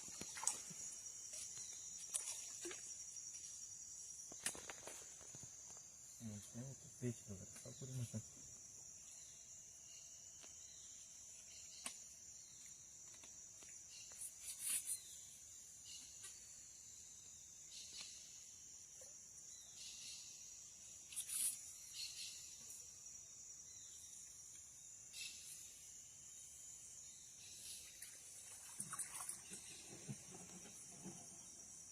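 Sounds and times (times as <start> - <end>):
high-pitched insect chorus: 0.0 - 31.9.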